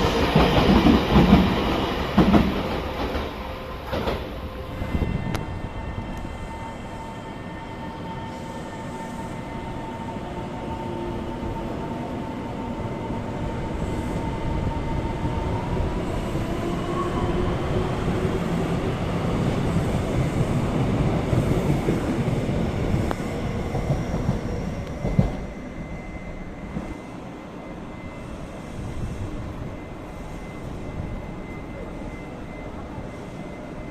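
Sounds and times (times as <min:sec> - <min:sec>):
train passing: 0:00.0 - 0:33.9.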